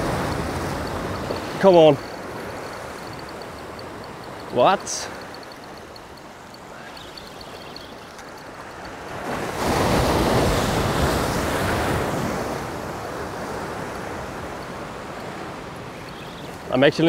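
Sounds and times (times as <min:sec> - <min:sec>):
waves splashing against rocks: 0:00.0 - 0:17.0
wind: 0:00.0 - 0:17.0.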